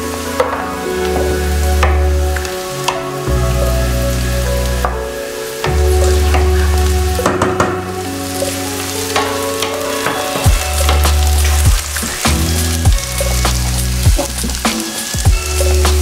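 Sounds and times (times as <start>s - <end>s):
background music with bass: 0.0s - 16.0s
vegetables sizzling: 0.0s - 16.0s.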